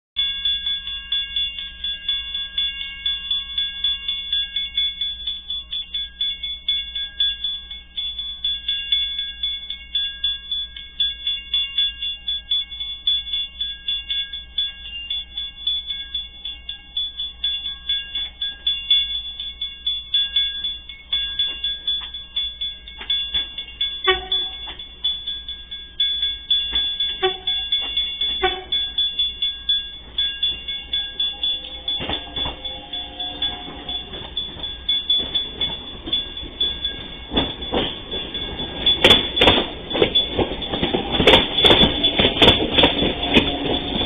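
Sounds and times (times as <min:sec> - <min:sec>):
level crossing bell ringing: 0:00.2 - 0:44.0
steady low hum: 0:00.2 - 0:44.0.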